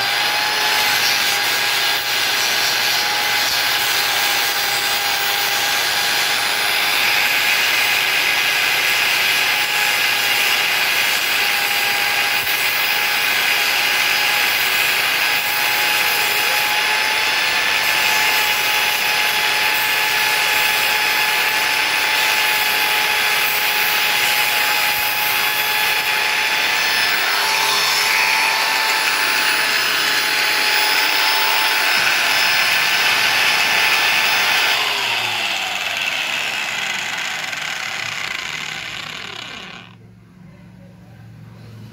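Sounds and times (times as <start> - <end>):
angle grinder motor whine: 0.0 - 40.0.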